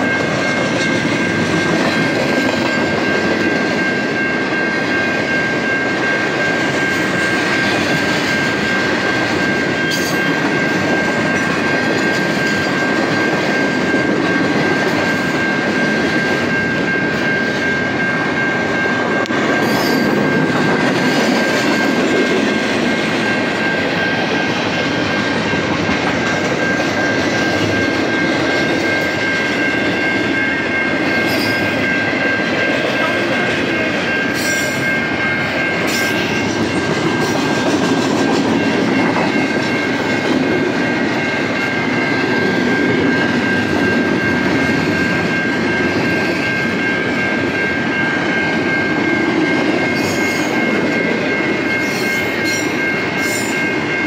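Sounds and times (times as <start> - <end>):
steady high-pitched tone: 0.0 - 54.0
train wheels roaring on rail: 0.0 - 54.0.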